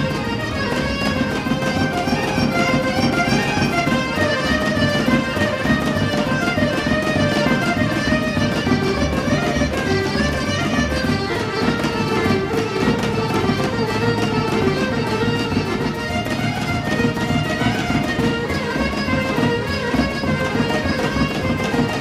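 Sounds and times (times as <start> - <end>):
folk dance music: 0.0 - 22.0.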